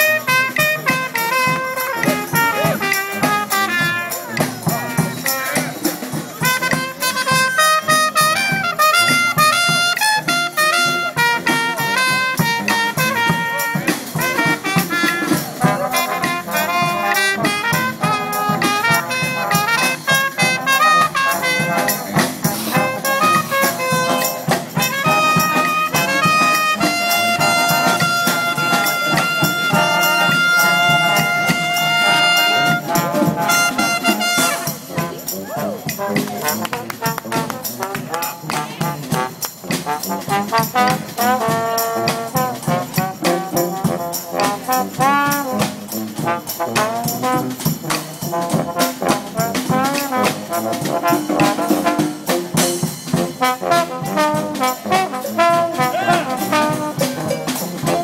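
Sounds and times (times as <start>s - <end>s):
brass band playing jazz: 0.0s - 58.0s.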